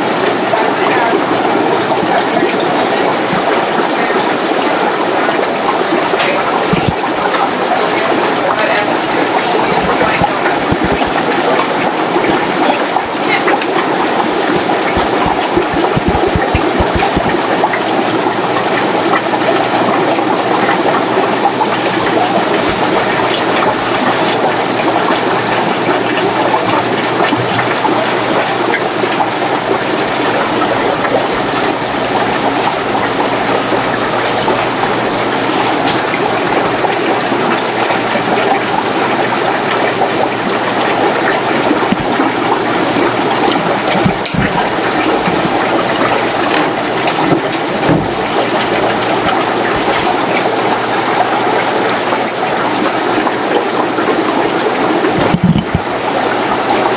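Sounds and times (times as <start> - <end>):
aquarium filters rushing water: 0.0 - 56.9.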